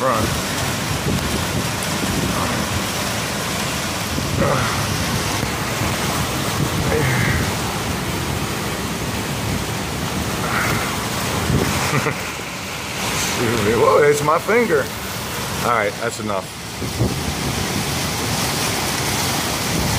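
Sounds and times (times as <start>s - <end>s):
hurricane wind and rain: 0.0s - 19.9s.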